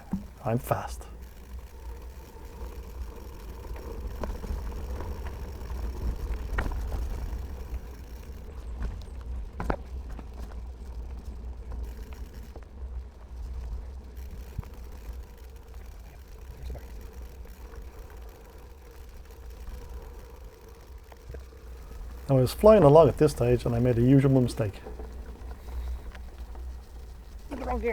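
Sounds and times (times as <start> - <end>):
bicycle knocks and rattles: 0.0 - 27.9
bicycle riding rumble: 0.0 - 27.9.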